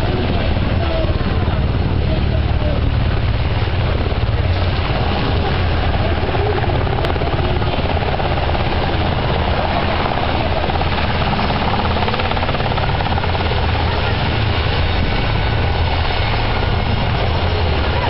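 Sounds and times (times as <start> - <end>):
helicopter rotor blades chopping: 0.0 - 18.0.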